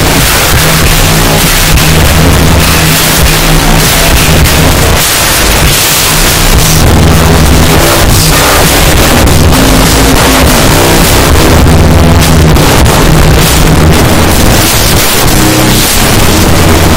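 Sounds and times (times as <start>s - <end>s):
distorted clipped music: 0.0s - 16.9s.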